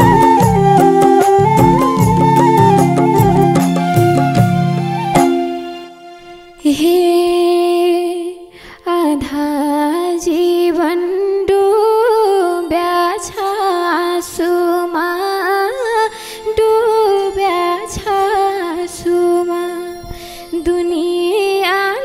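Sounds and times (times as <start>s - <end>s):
woman singing folk melody: 0.0s - 4.0s, 6.6s - 22.0s.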